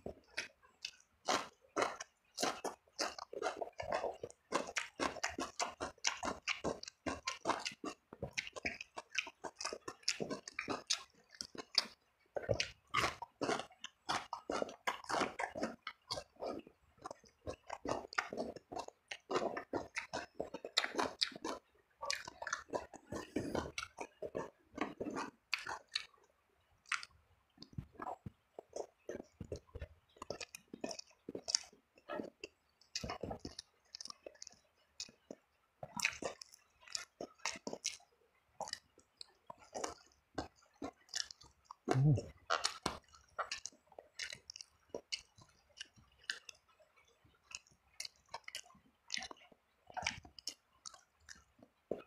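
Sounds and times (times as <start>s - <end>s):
person chewing food: 0.0s - 52.0s.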